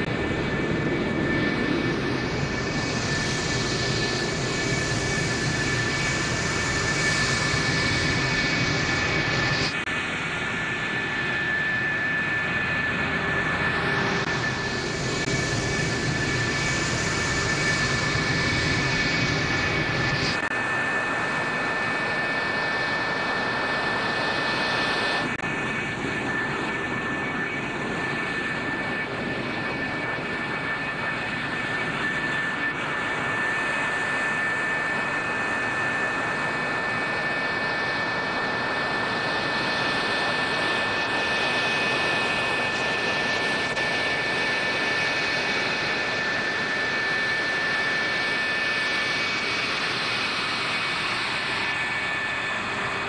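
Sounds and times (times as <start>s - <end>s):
high jet whine: 0.0s - 53.0s
jet engine rush: 0.0s - 53.0s.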